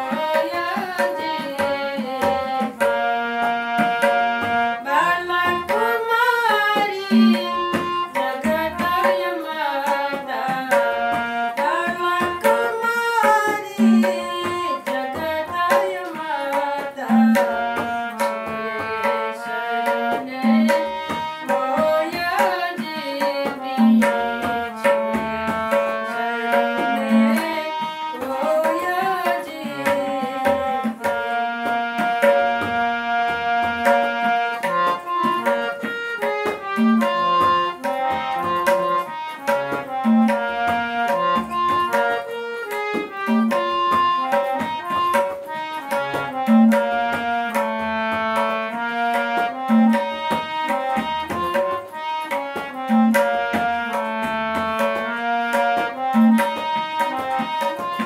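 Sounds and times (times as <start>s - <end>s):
harmonium melody: 0.0s - 58.0s
tabla rhythm: 0.0s - 58.0s.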